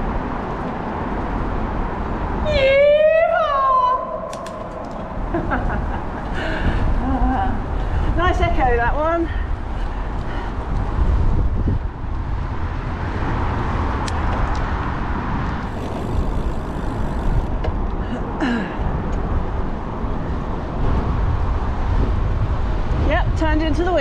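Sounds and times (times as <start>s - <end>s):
road and traffic noise: 0.0s - 24.0s
wind on microphone: 4.1s - 24.0s.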